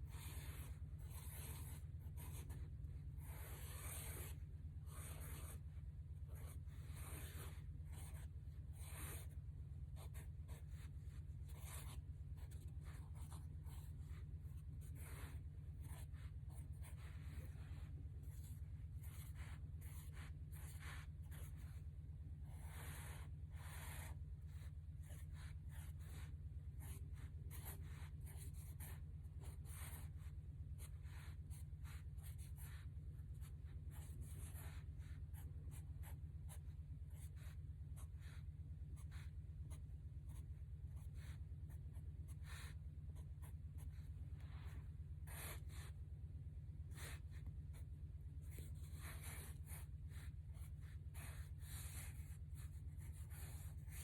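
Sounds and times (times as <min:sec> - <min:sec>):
marker drawing on paper: 0:00.0 - 0:46.0, 0:46.8 - 0:54.0.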